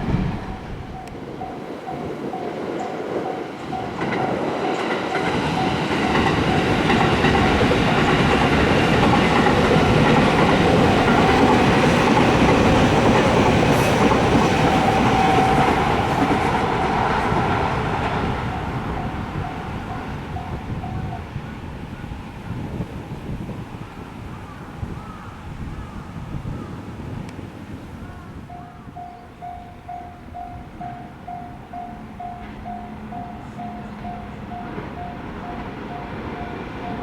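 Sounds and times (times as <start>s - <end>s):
crossing warning bell ringing: 0.0s - 21.4s, 28.4s - 37.0s
train rumble and wheel clatter: 0.0s - 37.0s.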